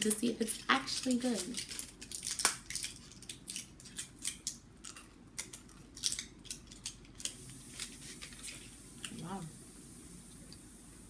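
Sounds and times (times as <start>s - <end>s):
plastic and foil crackling: 0.0s - 9.5s.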